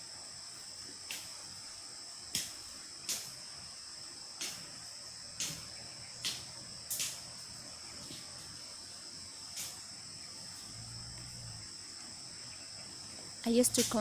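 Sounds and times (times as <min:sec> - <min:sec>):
insect chorus droning: 0:00.0 - 0:14.0.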